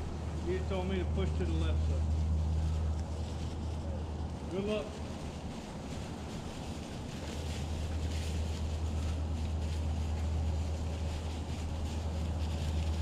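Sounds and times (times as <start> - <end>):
faint rustling hiss: 0.0 - 13.0.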